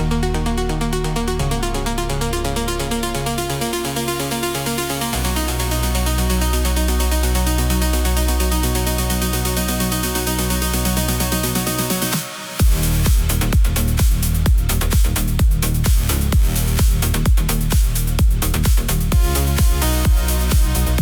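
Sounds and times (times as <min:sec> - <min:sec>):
deep bass note: 0:00.0 - 0:11.8, 0:12.6 - 0:21.0
house music with synths and beat: 0:00.0 - 0:21.0.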